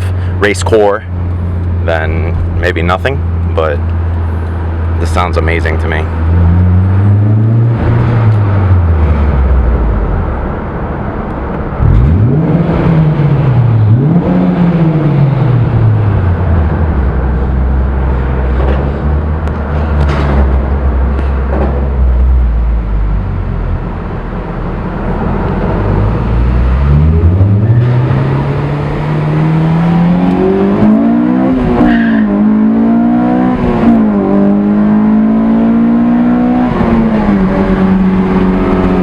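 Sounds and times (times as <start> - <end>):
car engine from inside cabin: 0.0 - 39.0.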